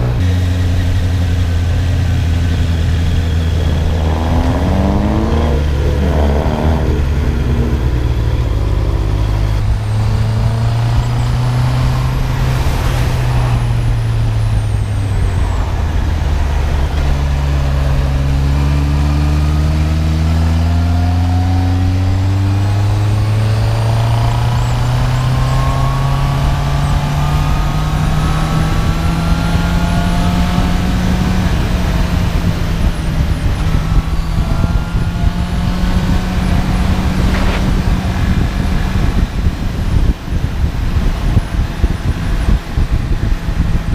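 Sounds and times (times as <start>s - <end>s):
motorcycle engine under way: 0.0s - 43.9s.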